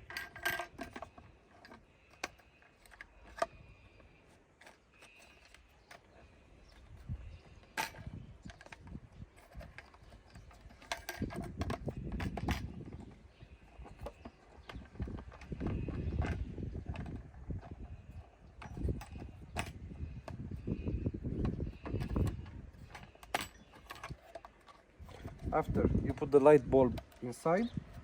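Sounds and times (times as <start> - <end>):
plastic parts clicking and rattling: 0.0 - 28.0.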